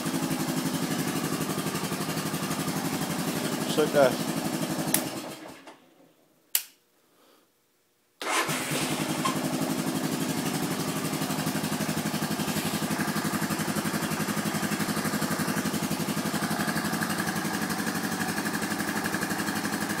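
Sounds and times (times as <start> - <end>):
four-stroke engine starting and idling: 0.0 - 6.0, 8.2 - 20.0.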